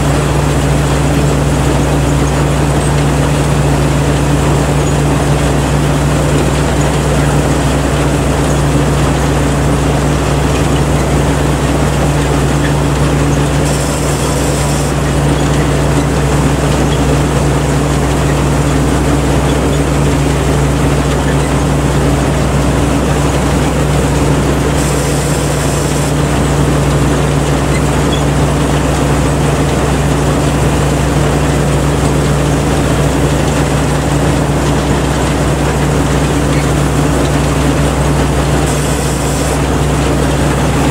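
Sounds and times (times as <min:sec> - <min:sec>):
combine harvester engine: 0:00.0 - 0:40.9.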